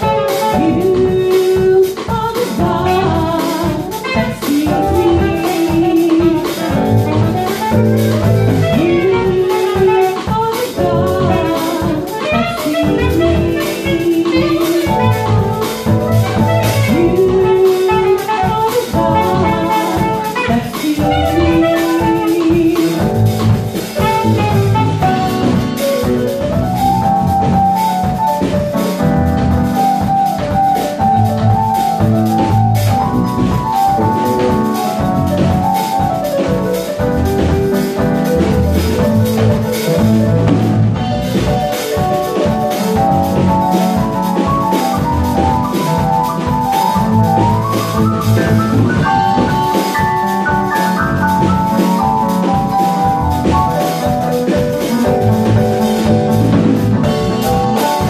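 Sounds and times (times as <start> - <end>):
bass line: 0.0 - 1.7, 2.6 - 58.0
saxophone melody: 0.0 - 1.9, 2.7 - 58.0
drum kit: 0.0 - 58.0
keyboard: 0.0 - 58.0.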